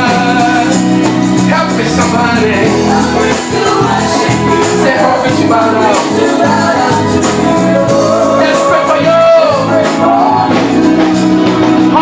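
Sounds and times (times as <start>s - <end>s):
bass line: 0.0s - 12.0s
gospel band playing: 0.0s - 12.0s
organ chords: 0.0s - 12.0s.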